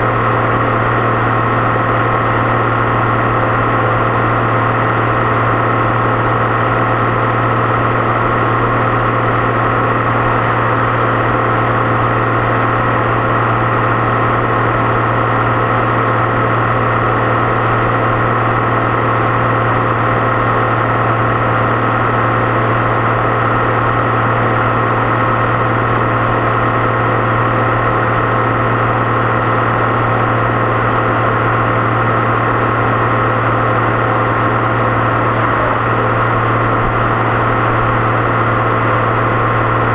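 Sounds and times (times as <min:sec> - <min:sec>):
high turbo whine: 0:00.0 - 0:39.9
tractor diesel engine humming: 0:00.0 - 0:39.9.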